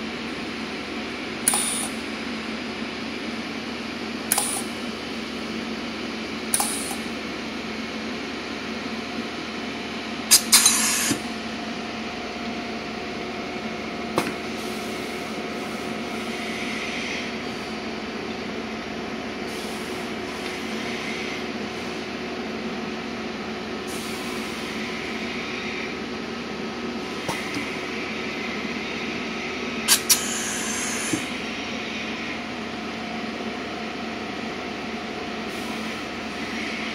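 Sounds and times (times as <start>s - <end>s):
machine hum: 0.0s - 36.9s.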